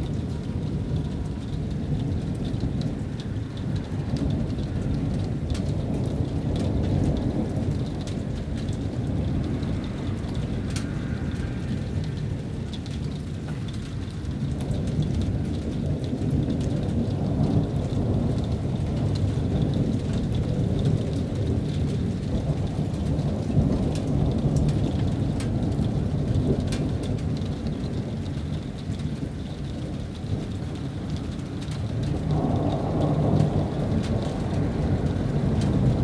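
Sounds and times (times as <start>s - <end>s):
low rumble of thunder: 0.0s - 36.0s
raindrops ticking near microphone: 0.0s - 36.0s
steady rain: 0.0s - 36.0s.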